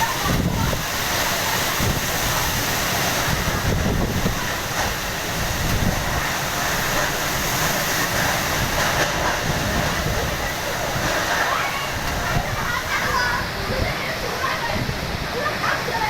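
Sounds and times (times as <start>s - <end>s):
gale-force wind: 0.0s - 16.0s
heavy rain: 0.0s - 16.0s
wind buffeting microphone: 0.0s - 16.0s.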